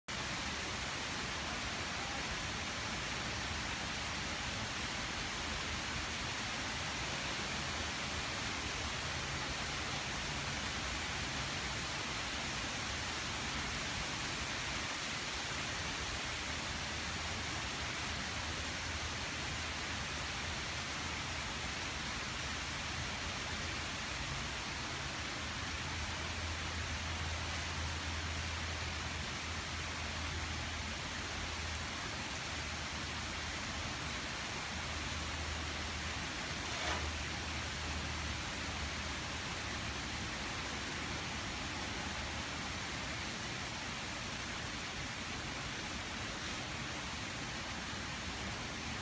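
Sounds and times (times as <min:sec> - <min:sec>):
steady rain: 0:00.0 - 0:49.0.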